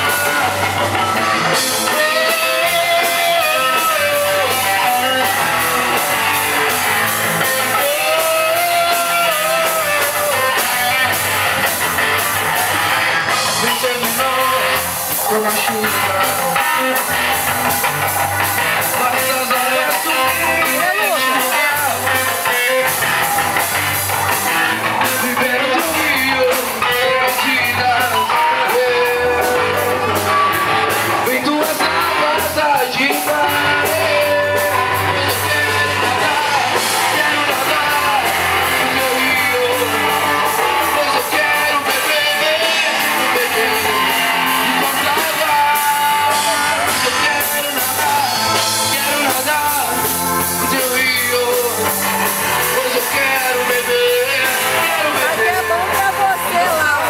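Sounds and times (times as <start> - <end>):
rock worship song with singing: 0.0 - 57.0.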